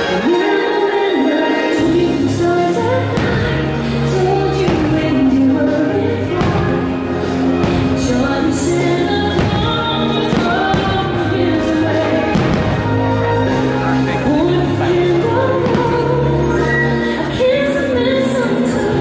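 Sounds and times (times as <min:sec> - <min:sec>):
music with singing: 0:00.0 - 0:19.0.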